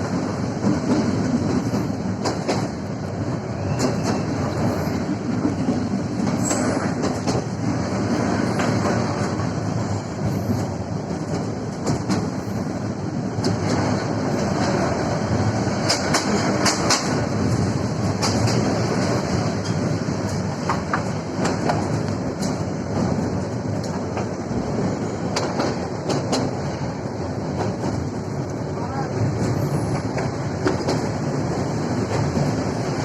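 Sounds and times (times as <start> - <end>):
clicks and rattles of train: 0.0 - 33.0
train rumbling on rails: 0.0 - 33.0.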